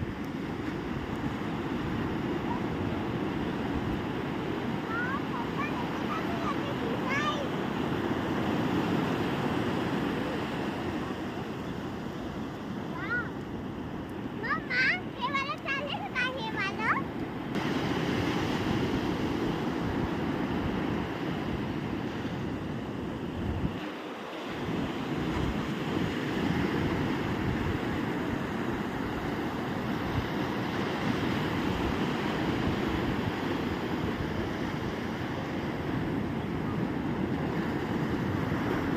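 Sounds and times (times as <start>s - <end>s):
ocean surf washing onto beach: 0.0s - 38.9s
wind rumbling on microphone: 0.0s - 38.9s.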